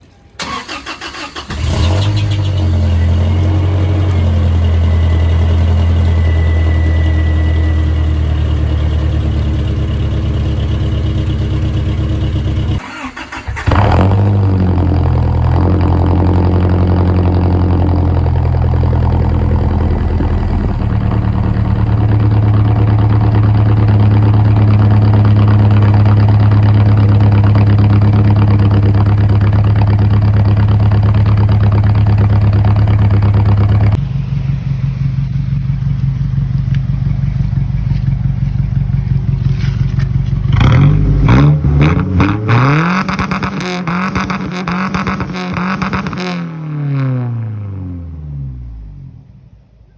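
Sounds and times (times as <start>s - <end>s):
car engine idling and revving: 0.0s - 49.8s.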